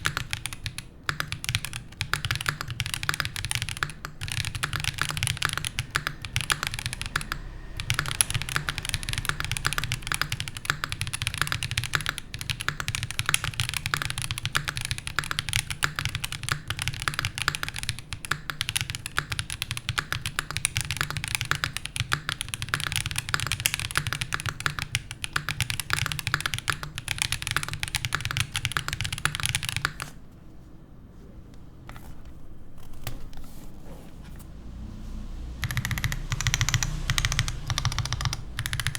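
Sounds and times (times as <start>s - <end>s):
fast typing on mechanical keyboard: 0.0s - 30.2s, 35.6s - 38.9s.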